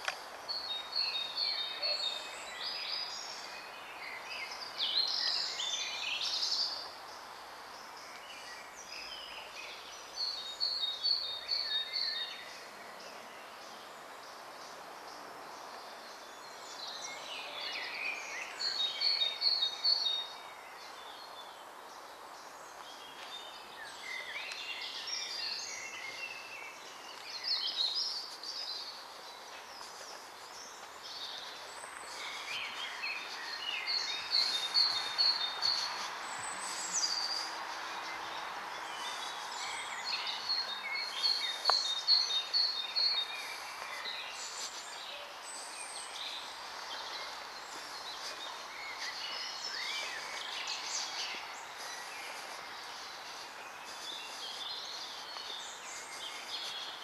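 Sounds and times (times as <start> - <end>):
songbirds singing: 0.0 - 57.0
steady background hiss: 0.0 - 57.0.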